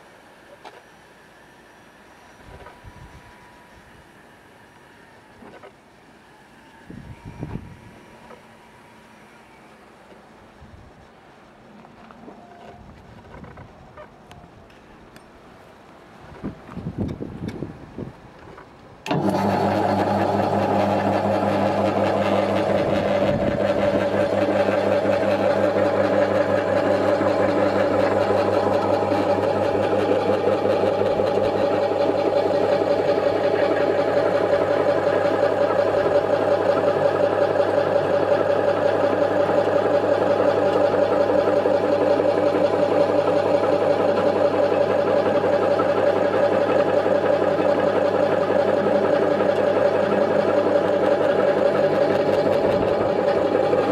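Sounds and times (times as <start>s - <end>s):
slicer motor humming with whine: 0.0s - 10.2s, 19.1s - 53.9s.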